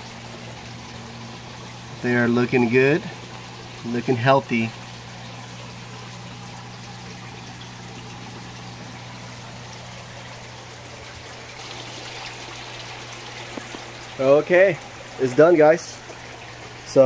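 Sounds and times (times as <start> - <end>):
water trickling into tank: 0.0 - 17.0.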